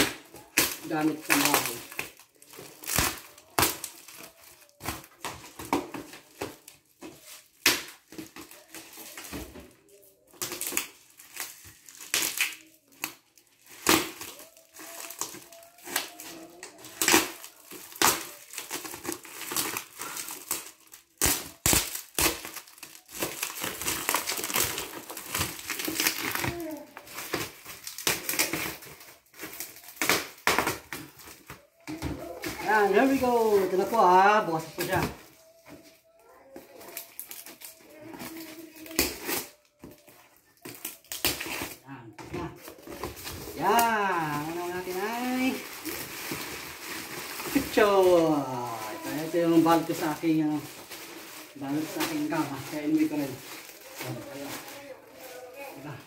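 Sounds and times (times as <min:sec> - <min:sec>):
plastic and tape tearing: 0:00.0 - 0:56.0.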